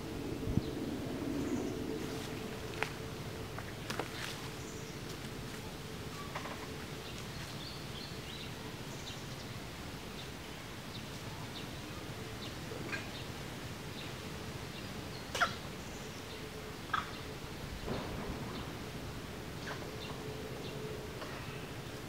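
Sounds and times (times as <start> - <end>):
outdoor ambience: 0.0 - 22.0.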